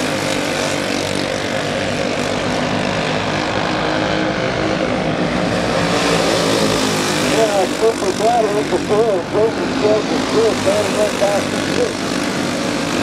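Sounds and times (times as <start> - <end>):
small race car engines droning: 0.0 - 13.0.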